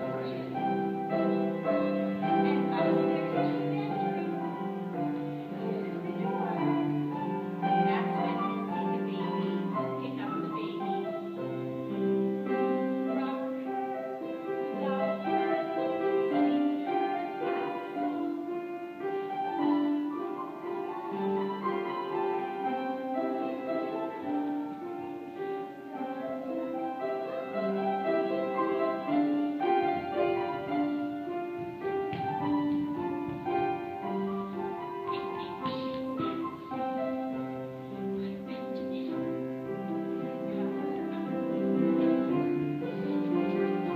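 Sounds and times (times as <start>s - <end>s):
instrumental classical music: 0.0s - 43.9s.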